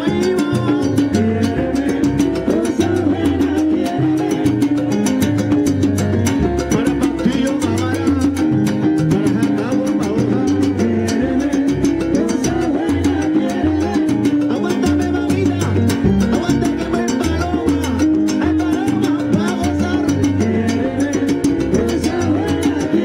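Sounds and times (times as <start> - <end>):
bass line: 0.0 - 23.0
congas and timbales rhythm: 0.0 - 23.0
live salsa band: 0.0 - 23.0.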